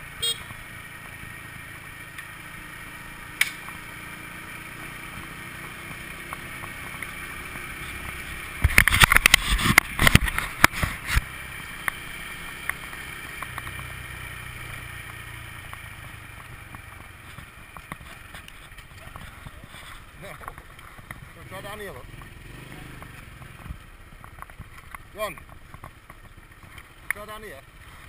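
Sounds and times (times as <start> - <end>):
road and wind noise: 0.0 - 28.0
scooter engine: 0.0 - 28.0.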